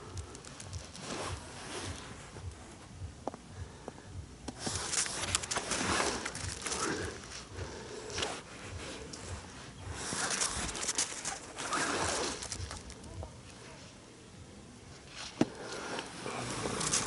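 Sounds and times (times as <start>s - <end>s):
rustling handling noise: 0.0s - 3.4s, 4.5s - 14.0s, 14.9s - 17.0s
footsteps: 0.0s - 13.9s.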